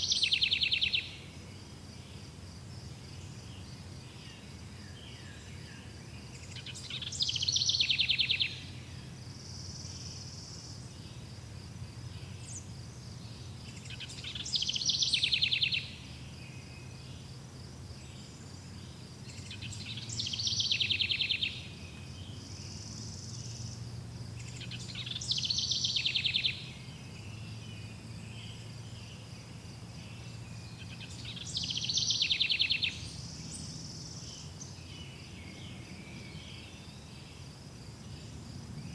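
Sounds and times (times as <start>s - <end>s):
songbird trilled song: 0.0s - 2.4s, 3.1s - 17.3s, 17.9s - 38.9s
insects trilling: 2.0s - 38.9s.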